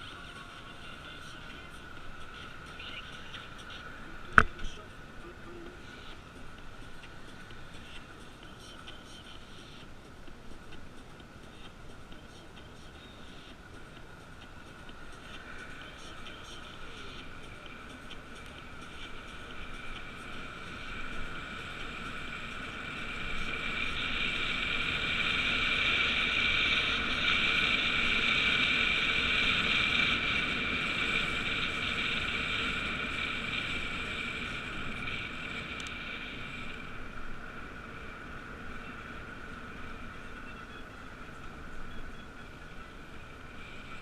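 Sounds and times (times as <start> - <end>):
road noise: 0.0 - 44.0
wind: 0.0 - 44.0.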